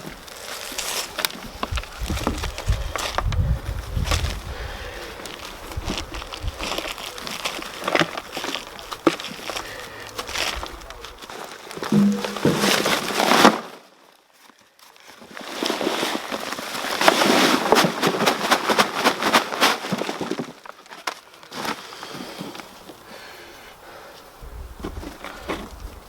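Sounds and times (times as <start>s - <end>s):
hands digging through dry compost: 0.0s - 23.0s.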